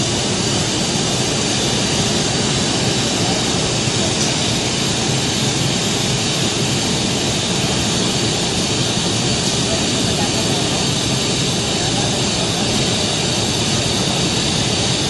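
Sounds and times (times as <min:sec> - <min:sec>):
machinery rushing noise: 0:00.0 - 0:15.0.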